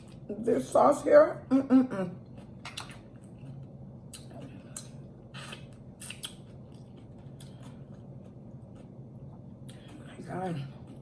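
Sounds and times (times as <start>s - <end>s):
low steady hum: 0.0s - 11.0s
wet chewing and eating: 2.2s - 11.0s.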